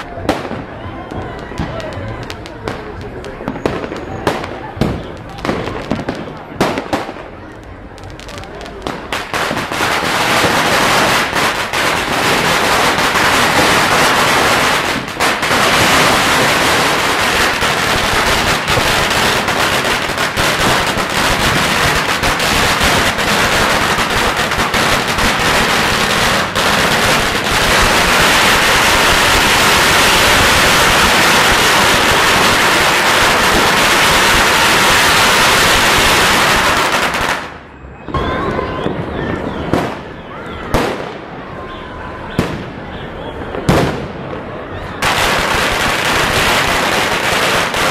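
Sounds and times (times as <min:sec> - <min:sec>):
firecrackers crackling: 0:00.0 - 0:47.9.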